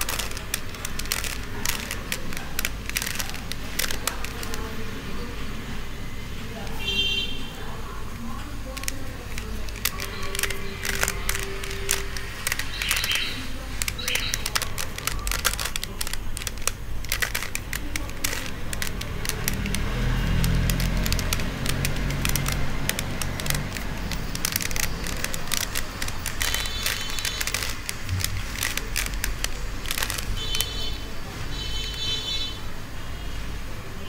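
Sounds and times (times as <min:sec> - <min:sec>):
puzzle cube layers clicking: 0:00.0 - 0:04.9, 0:08.2 - 0:32.2.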